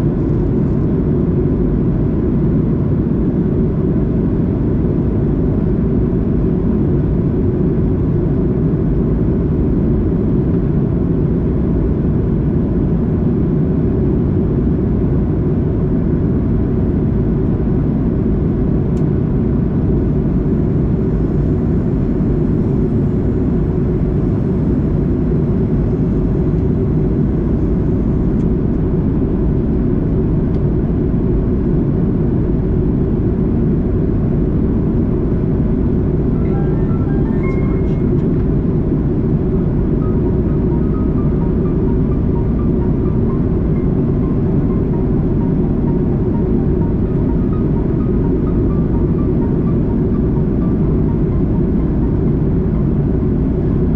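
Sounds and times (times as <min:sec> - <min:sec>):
airliner cabin roar: 0:00.0 - 0:53.9.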